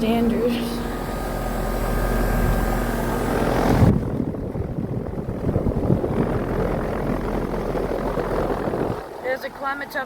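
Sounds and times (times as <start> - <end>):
heat pump humming: 0.0 - 10.0.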